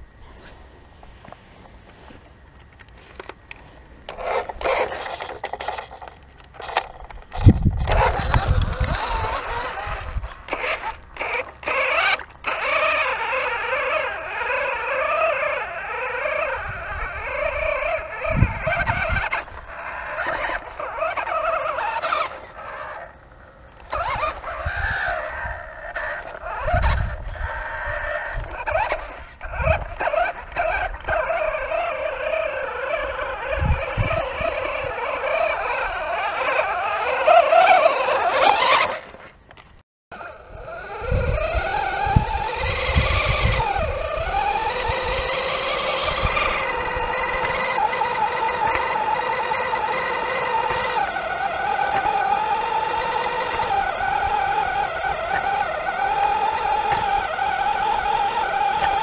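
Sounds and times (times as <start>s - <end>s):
toy truck motor whining: 3.0s - 59.0s.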